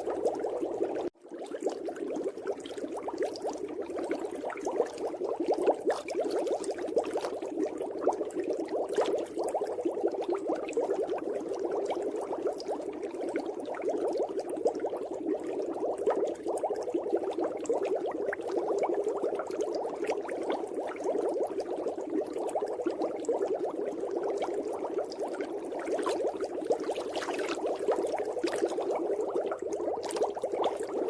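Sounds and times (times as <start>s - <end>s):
underwater bubbling: 0.0s - 31.0s.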